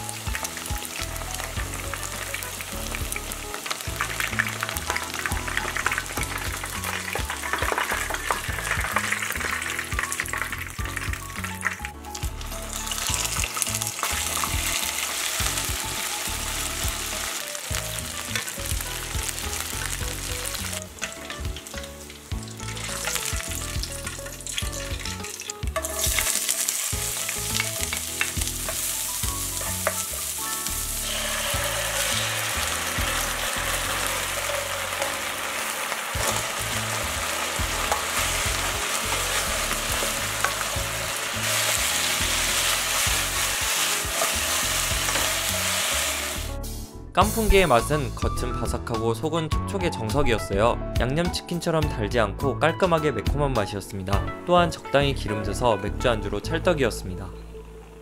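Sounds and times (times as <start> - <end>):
vegetables stir-frying: 0.0 - 47.8
chicken sizzling in hot oil: 0.0 - 48.1.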